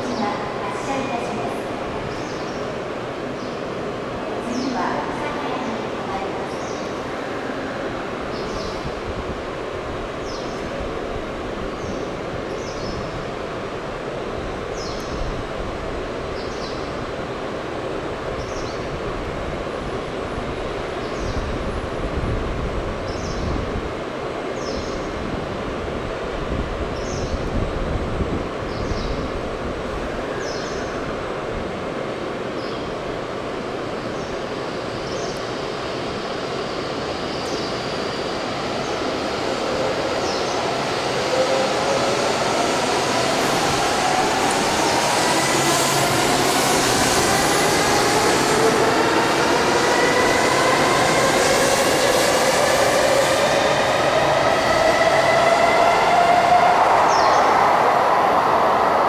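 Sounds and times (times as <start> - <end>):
train hum and noise: 0.0 - 59.0.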